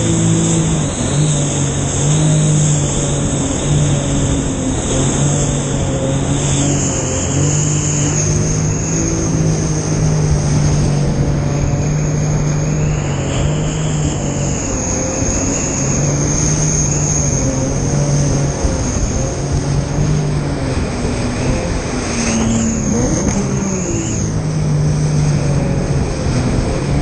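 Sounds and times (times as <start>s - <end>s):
jet ski engine running: 0.0s - 27.0s
rush of water and wind: 0.0s - 27.0s.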